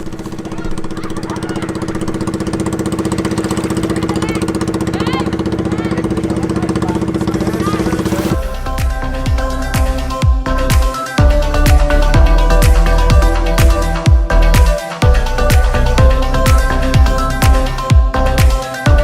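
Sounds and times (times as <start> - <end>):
small engine running steadily: 0.0 - 19.0.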